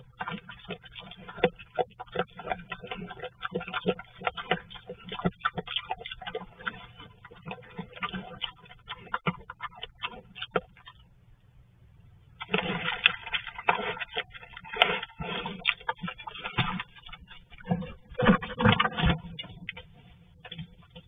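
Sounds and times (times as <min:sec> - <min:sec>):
bear crunching and scraping: 0:00.0 - 0:11.0, 0:12.4 - 0:21.0.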